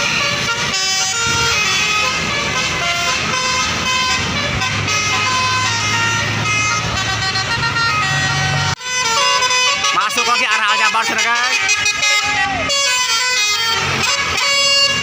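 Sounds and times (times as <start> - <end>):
bus engine droning: 0.0 - 15.0
multi-tone bus horn tune: 0.0 - 15.0.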